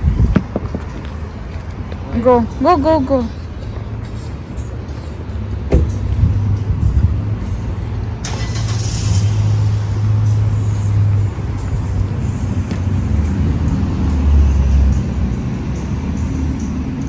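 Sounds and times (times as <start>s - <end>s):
car engine idling: 0.4s - 17.0s.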